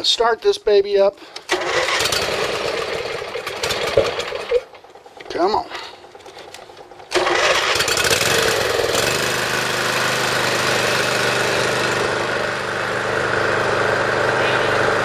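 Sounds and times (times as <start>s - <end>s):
lawn mower engine starting and running: 1.3s - 15.0s.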